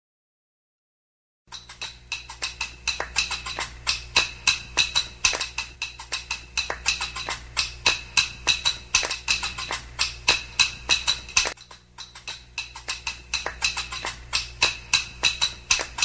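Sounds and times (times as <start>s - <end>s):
spoon and pen tapping rhythm: 1.5s - 16.0s.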